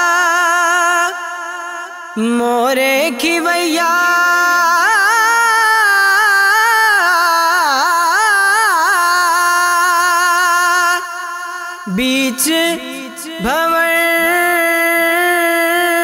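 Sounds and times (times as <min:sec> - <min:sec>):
man singing long ornamented note: 0:00.0 - 0:16.0.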